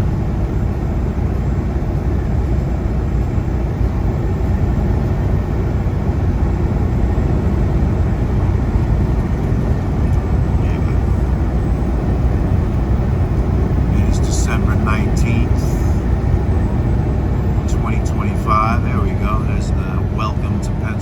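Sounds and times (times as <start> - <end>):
truck diesel engine droning: 0.0 - 21.0.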